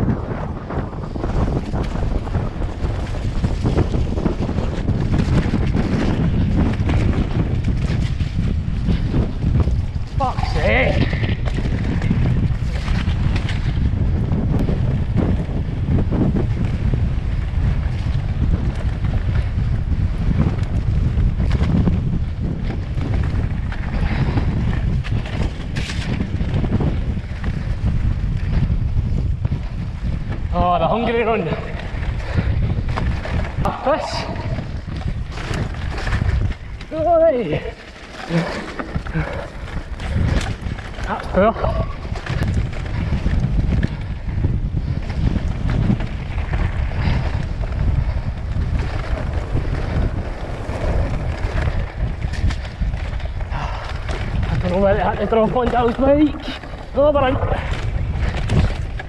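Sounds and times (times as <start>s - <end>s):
bike clicks and rattles: 0.0s - 59.0s
bike tyres running through mud: 0.0s - 59.0s
wind buffeting microphone: 0.0s - 59.0s.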